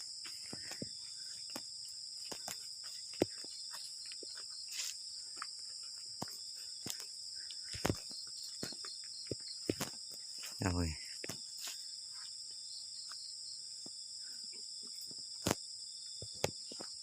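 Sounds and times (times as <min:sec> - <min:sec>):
crickets chirping chorus: 0:00.0 - 0:17.0.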